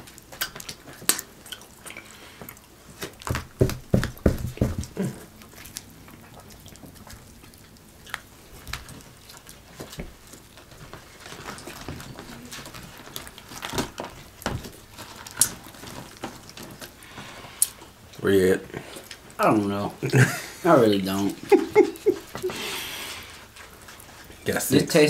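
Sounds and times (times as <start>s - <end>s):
chewing and smacking: 0.0s - 20.2s, 20.8s - 25.0s.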